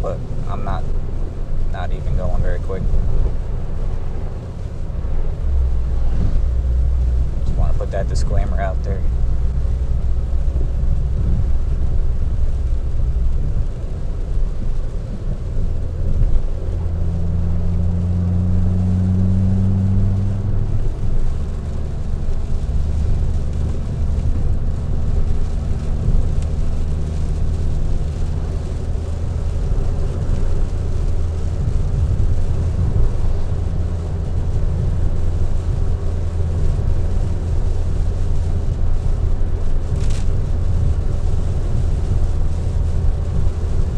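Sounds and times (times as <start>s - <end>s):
car engine and exhaust droning: 0.0s - 43.9s
road noise: 0.0s - 43.9s.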